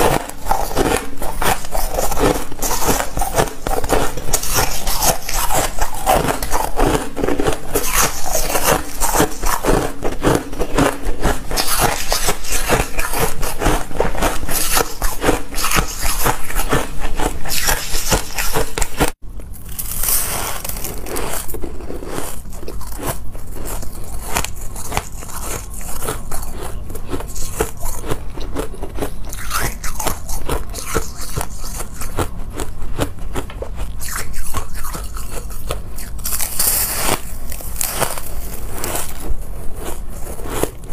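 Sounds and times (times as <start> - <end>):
chewing ice crunches: 0.0 - 40.9.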